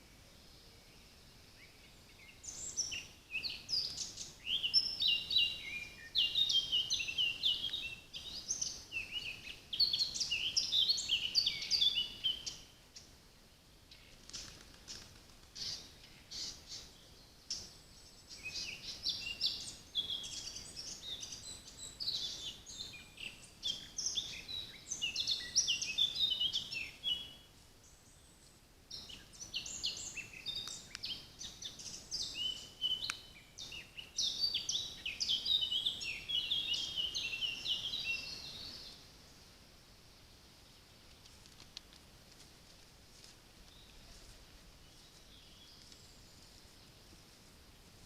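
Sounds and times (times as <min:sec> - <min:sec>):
songbird twittering song: 0:00.0 - 0:39.6, 0:43.6 - 0:47.1.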